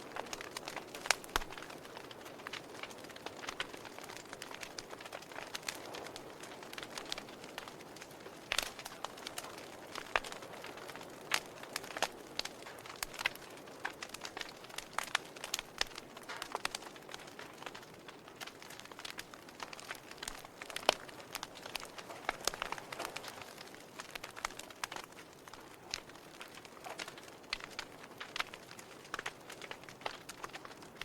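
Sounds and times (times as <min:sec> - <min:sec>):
wood fire crackling in fireplace: 0:00.0 - 0:31.0.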